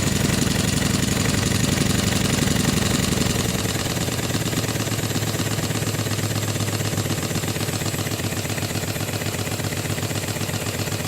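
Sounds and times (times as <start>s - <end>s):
model steam engine running: 0.0s - 11.0s.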